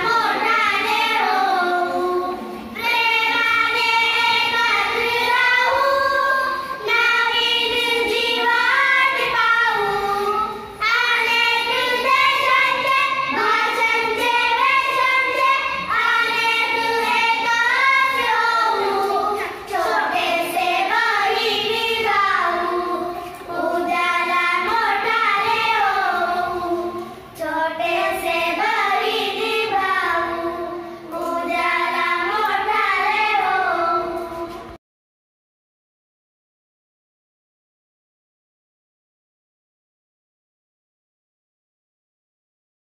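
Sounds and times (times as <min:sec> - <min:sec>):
girls singing into a microphone: 0:00.0 - 0:34.8.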